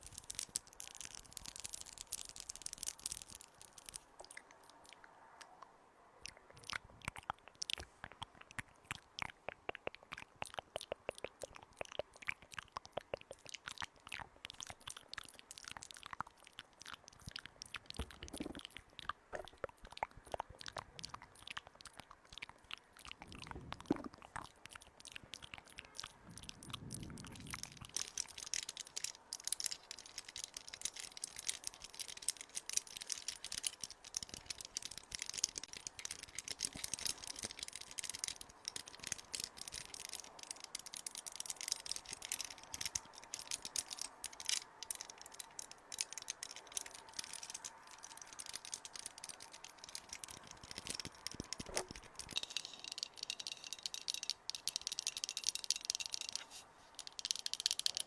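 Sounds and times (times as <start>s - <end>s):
crunching and crackling: 0.0s - 58.0s.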